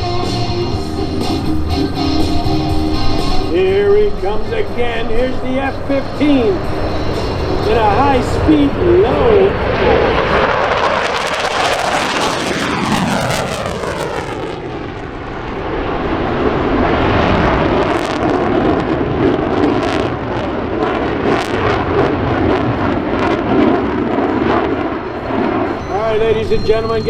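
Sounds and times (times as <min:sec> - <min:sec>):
crackling jet rumble: 0:00.0 - 0:27.0
falling sweeping tones: 0:00.0 - 0:27.0
fighter jet engines roaring: 0:00.0 - 0:27.0.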